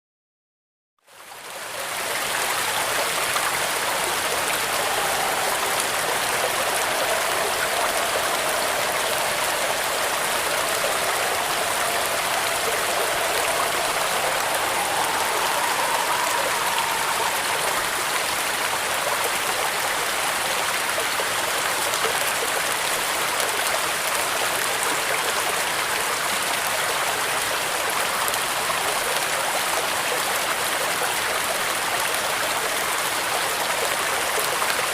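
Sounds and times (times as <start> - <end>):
heavy rain on a metal roof: 1.2 - 34.9.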